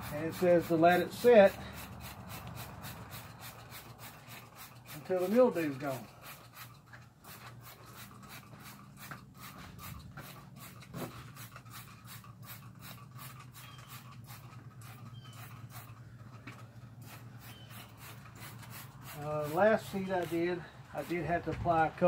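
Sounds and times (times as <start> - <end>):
spray bottle squirting: 0.0 - 16.0, 17.0 - 21.1.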